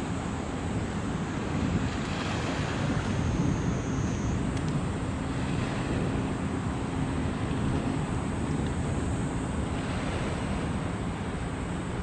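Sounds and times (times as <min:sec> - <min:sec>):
waves on water: 0:00.0 - 0:12.0
wind buffeting microphone: 0:00.1 - 0:12.0.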